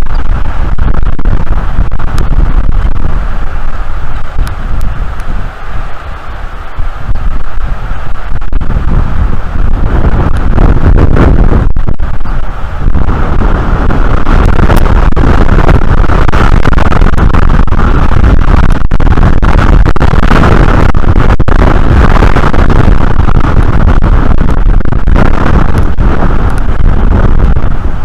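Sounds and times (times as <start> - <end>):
strong wind on microphone: 0.0 - 28.0.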